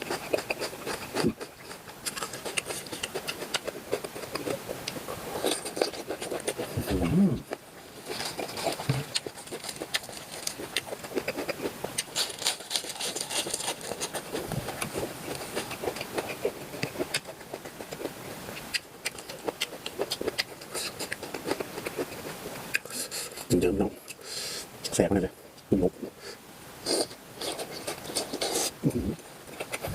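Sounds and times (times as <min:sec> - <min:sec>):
chewing and mouth smacks: 0:00.0 - 0:25.0, 0:26.9 - 0:29.9.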